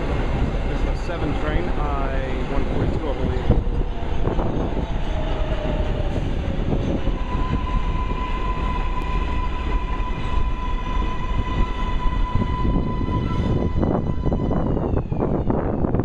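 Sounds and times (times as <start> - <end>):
train wheels rumbling on rail: 0.0 - 16.0
steady high tone: 0.8 - 16.0.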